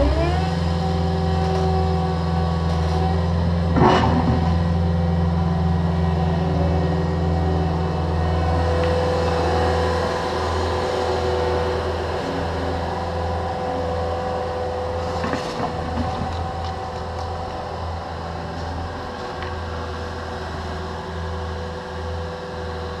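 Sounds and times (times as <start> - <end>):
diesel engines running: 0.0 - 23.0.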